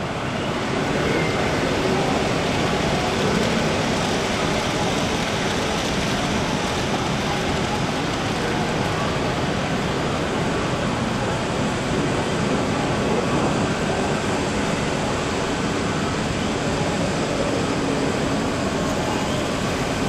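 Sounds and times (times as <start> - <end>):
hall background noise: 0.0 - 20.0
model trains rolling on track: 0.0 - 20.0.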